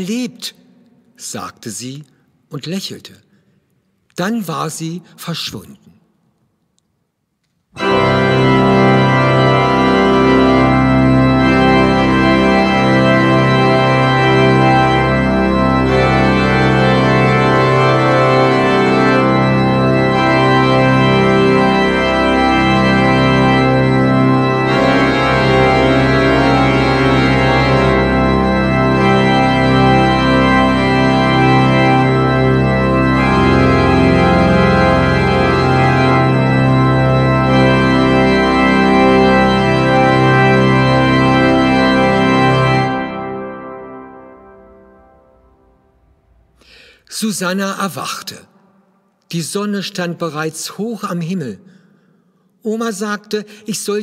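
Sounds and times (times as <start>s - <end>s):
church organ chords: 7.7s - 51.4s.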